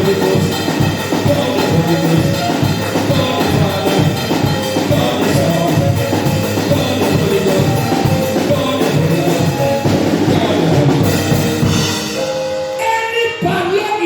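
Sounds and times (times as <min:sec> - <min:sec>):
drum kit beat: 0:00.0 - 0:13.9
band music: 0:00.0 - 0:14.0.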